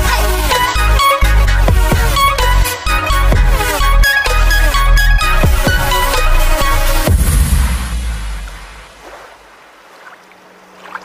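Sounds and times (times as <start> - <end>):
electronic music with deep bass: 0.0 - 9.0.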